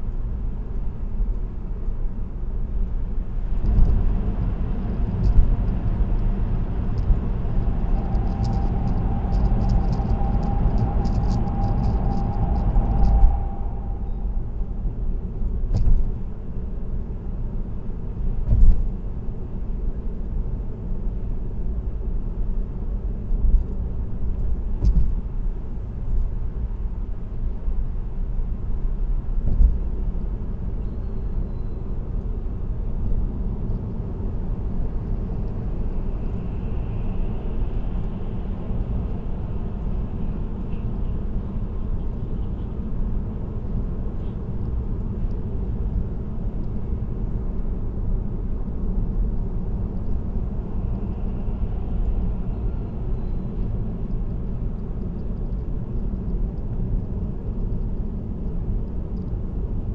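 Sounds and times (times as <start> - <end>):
car tyre and road noise: 0.0 - 59.9.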